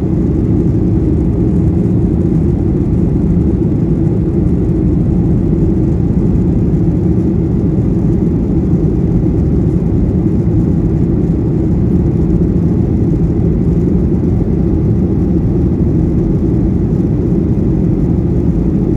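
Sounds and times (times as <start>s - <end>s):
airliner cabin engine rumble: 0.0s - 18.9s.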